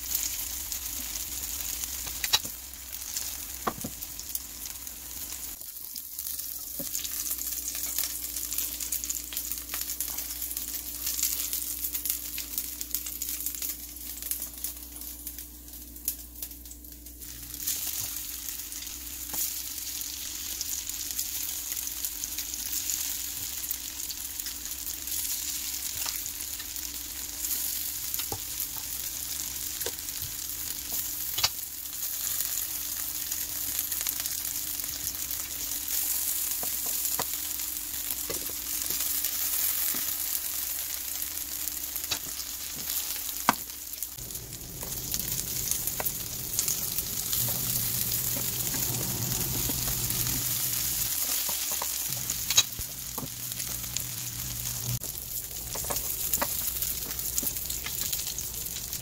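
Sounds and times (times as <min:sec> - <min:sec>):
patties sizzling in oil: 0:00.0 - 0:59.0.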